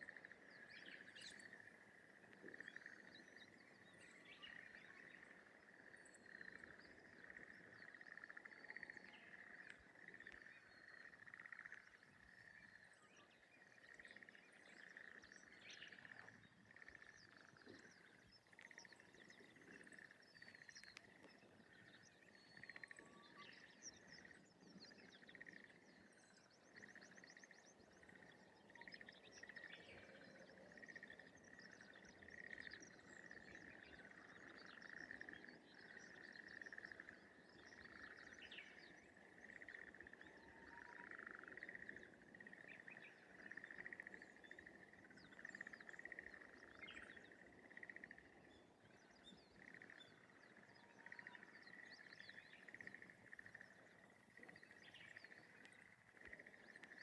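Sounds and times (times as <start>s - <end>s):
frogs trilling: 0.0s - 57.0s.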